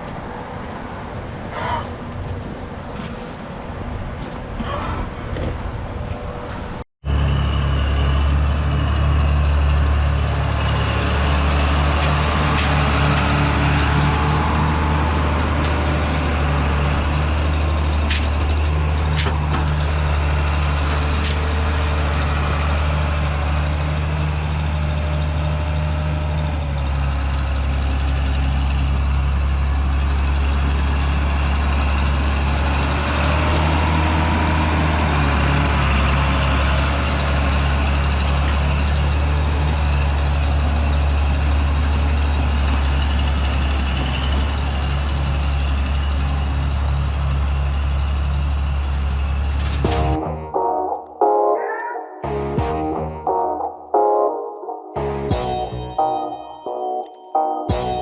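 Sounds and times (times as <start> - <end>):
diesel engine droning: 0.0 - 50.7.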